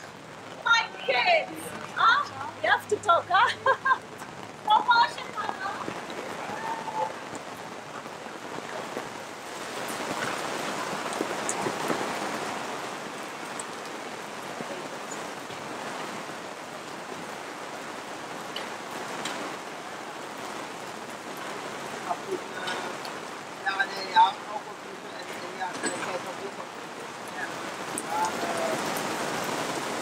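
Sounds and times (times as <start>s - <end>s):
heavy rain on pavement: 0.0s - 30.0s.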